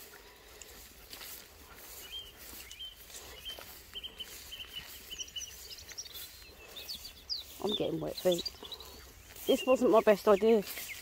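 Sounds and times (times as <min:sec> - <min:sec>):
small songbird chirping: 0:01.5 - 0:11.0.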